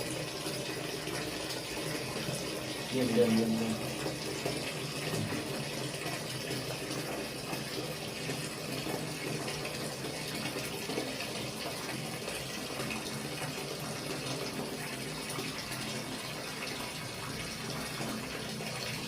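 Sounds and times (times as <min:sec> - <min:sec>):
water running from tap: 0:00.0 - 0:19.0.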